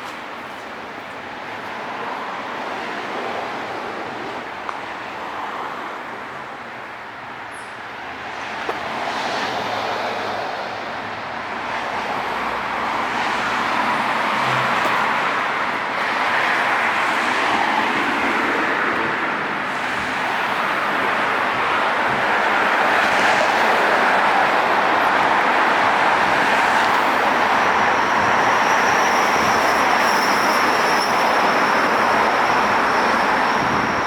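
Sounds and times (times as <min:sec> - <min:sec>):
cars passing: 0:00.2 - 0:34.0.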